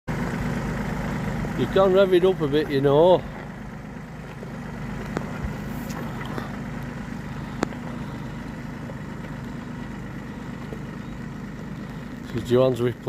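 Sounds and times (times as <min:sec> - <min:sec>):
tractor engine idling: 0:00.1 - 0:13.0.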